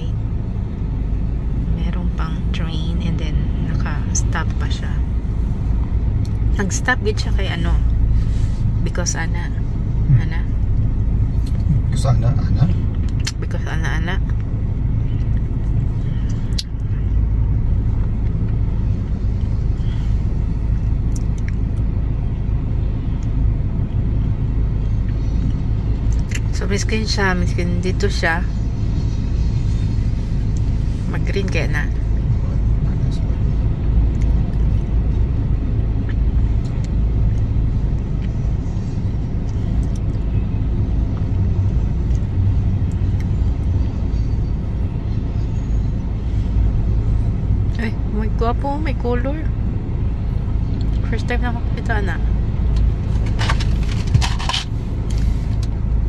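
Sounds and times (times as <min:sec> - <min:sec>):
freight train low rumble: 0:00.0 - 0:56.0.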